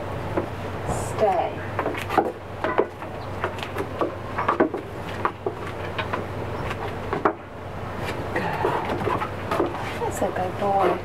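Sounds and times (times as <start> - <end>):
flip-flop footsteps on wooden decking: 1.2 - 7.4, 8.0 - 11.0.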